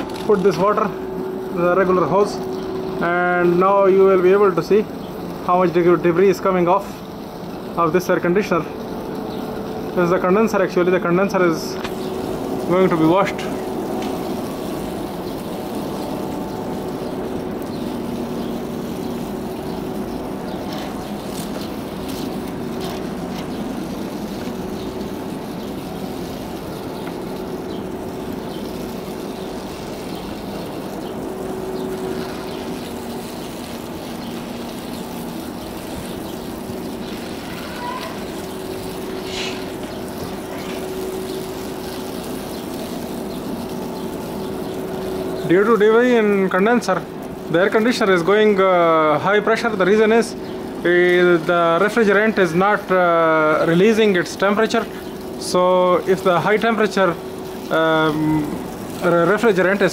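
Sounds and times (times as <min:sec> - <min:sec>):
hose water spraying on metal: 0:00.0 - 0:59.9.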